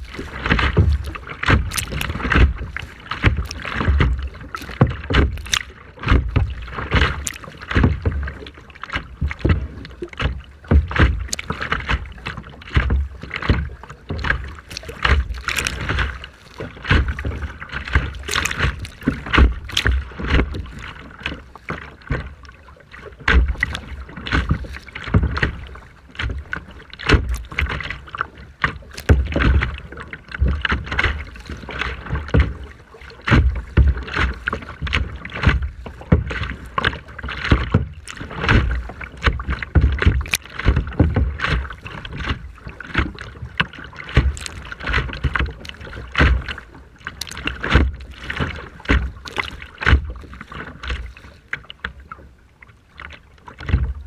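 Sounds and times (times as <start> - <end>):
sea water sloshing and splashing: 0.0 - 54.0.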